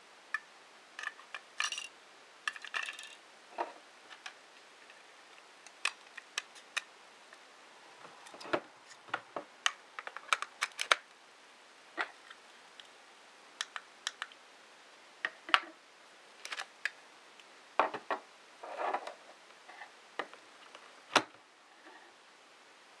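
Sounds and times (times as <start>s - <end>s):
rustle: 0.0s - 22.4s.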